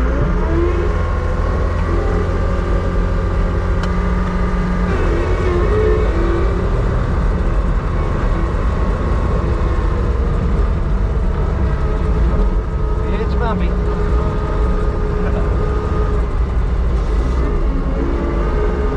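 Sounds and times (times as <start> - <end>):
vehicle engine rumbling: 0.0 - 18.9.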